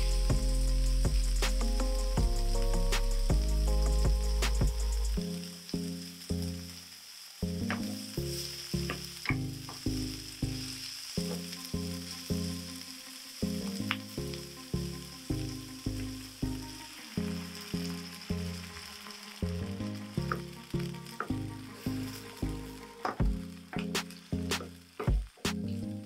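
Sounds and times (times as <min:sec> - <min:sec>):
background music: 0:00.0 - 0:06.6, 0:11.2 - 0:26.0
vegetables sizzling in a pan: 0:00.0 - 0:26.0.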